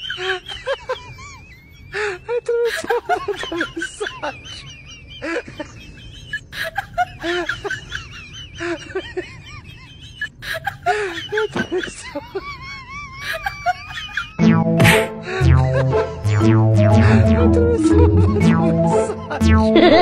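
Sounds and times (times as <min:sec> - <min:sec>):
person laughing: 0:00.0 - 0:20.0.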